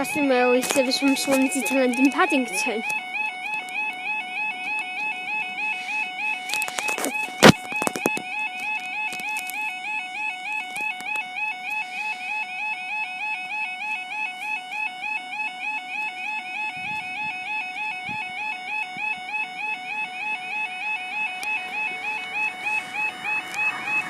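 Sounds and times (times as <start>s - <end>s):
level crossing alarm warbling: 0.0s - 24.0s.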